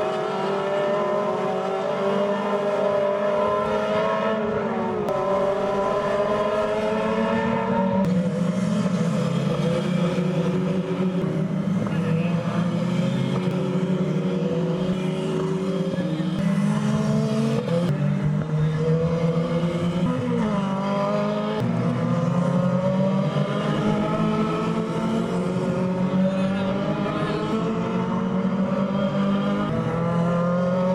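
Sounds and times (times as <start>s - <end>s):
race car engine revving: 0.0s - 30.9s.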